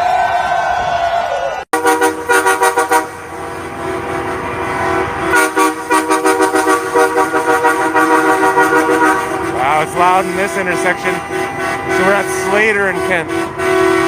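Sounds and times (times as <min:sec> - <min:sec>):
truck air horns honking: 0:01.7 - 0:14.0.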